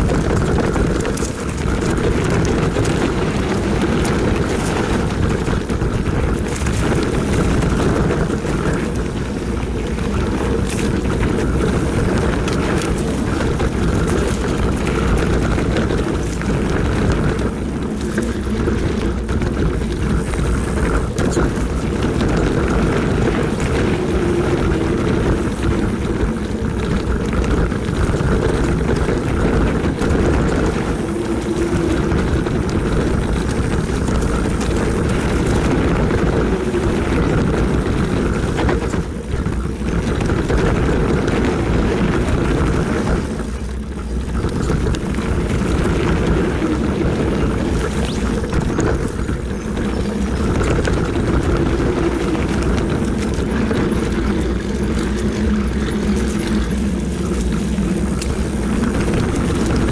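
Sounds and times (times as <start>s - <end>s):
mountain bike rolling on dirt: 0.0s - 59.9s
wind buffeting microphone: 0.0s - 59.9s.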